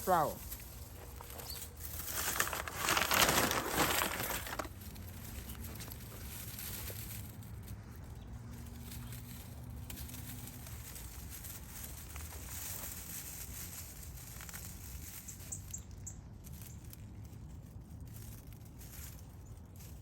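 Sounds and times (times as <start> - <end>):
dry flower stems crackling: 0.0 - 20.0
low outdoor background: 0.0 - 20.0.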